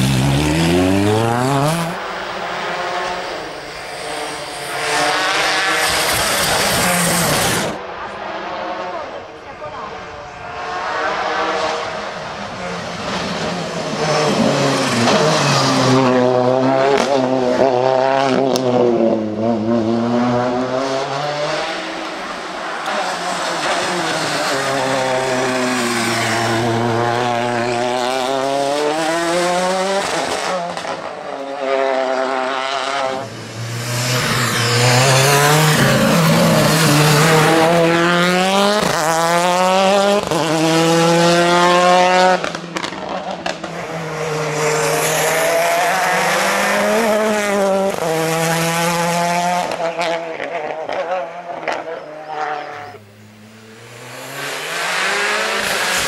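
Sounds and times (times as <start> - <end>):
rally car engine at full throttle: 0.0 - 56.0.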